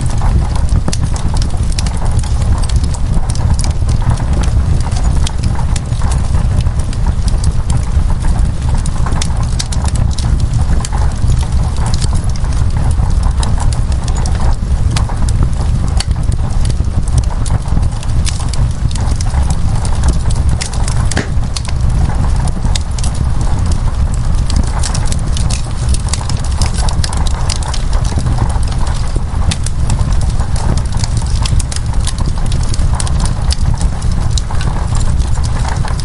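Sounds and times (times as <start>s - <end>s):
low fire rumble: 0.0s - 36.0s
wood fire crackling and popping: 0.0s - 36.0s.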